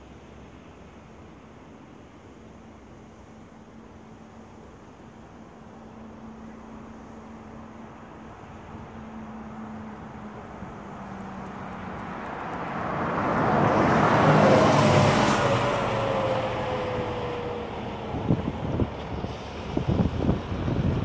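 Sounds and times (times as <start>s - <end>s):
bus driving past: 3.1s - 21.0s.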